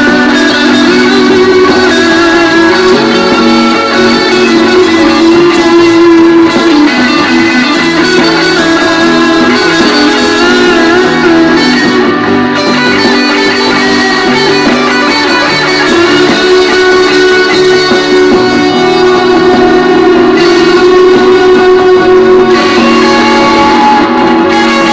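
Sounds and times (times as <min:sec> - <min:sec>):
electric guitar through amplifier: 0:00.0 - 0:24.9.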